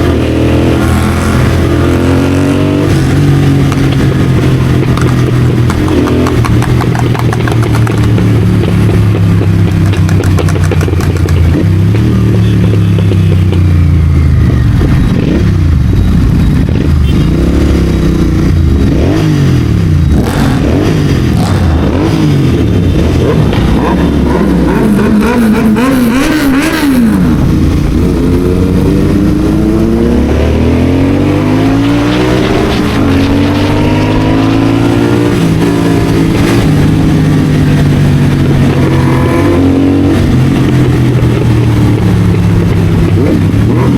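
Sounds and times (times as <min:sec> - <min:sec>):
motorcycle engine revving: 0:00.0 - 0:43.9
other engines: 0:00.0 - 0:43.9.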